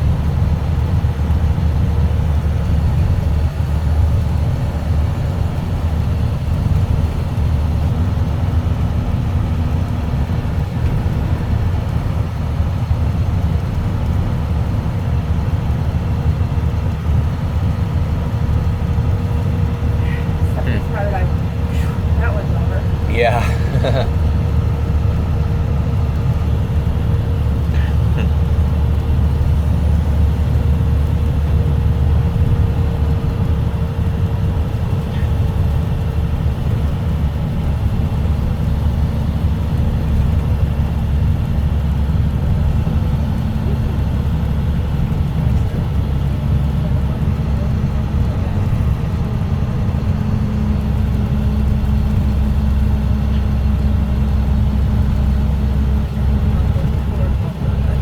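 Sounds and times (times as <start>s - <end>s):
diesel bus engine drone: 0.0s - 58.0s
road noise: 0.0s - 58.0s.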